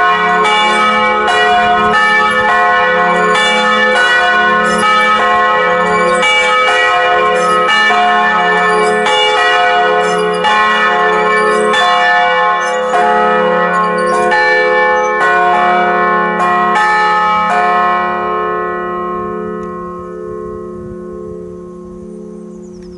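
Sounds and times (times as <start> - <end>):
church bells ringing: 0.0 - 22.9.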